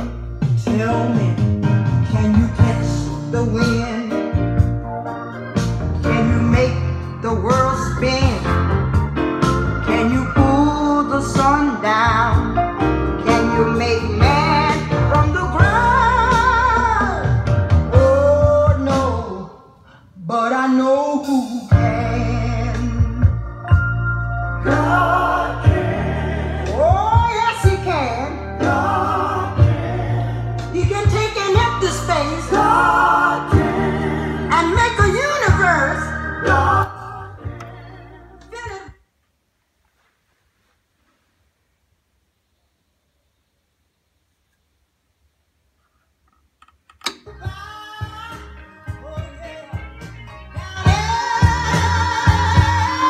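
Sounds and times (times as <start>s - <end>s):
music with singing: 0.0s - 39.0s, 47.0s - 53.0s
song on vinyl record: 0.0s - 53.0s.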